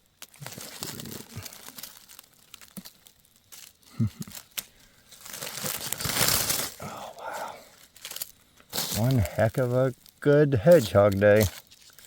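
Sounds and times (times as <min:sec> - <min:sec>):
leaf litter rustling: 0:00.0 - 0:12.0.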